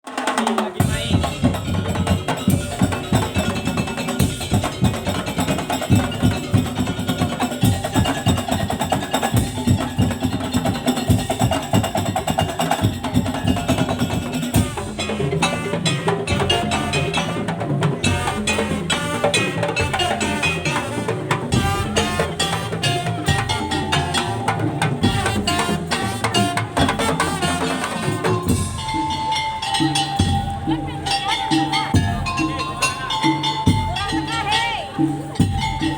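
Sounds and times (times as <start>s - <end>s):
wooden slit drums and drums: 0.0s - 35.9s.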